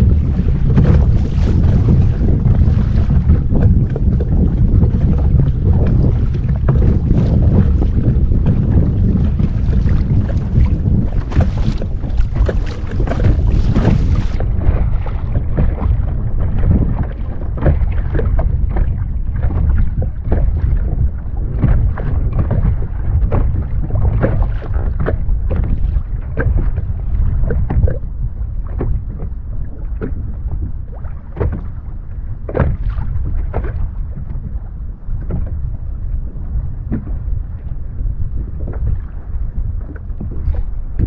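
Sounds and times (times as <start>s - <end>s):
water splashing around kayak: 0.0s - 41.0s
wind on microphone: 0.0s - 41.0s.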